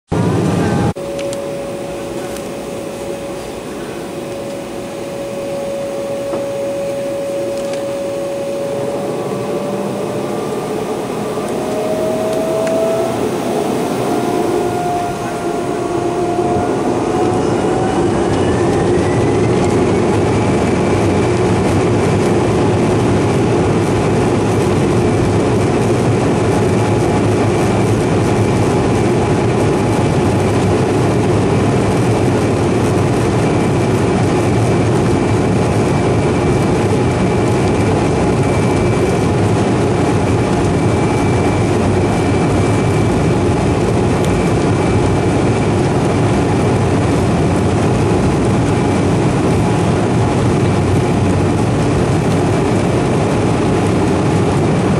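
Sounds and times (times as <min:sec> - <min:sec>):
jet engine whine: 0:00.1 - 0:54.9
loud rushing rumble: 0:00.1 - 0:54.9.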